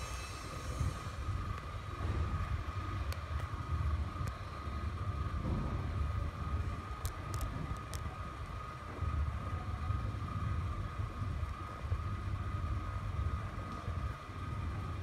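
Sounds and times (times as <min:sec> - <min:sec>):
high whine: 0:00.0 - 0:14.8.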